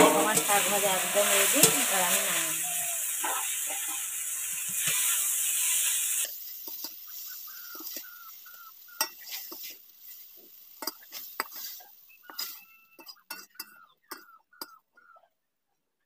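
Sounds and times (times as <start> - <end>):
greens sizzling in a wok: 0.0 - 13.6
metal spatula scraping a wok: 0.0 - 13.7.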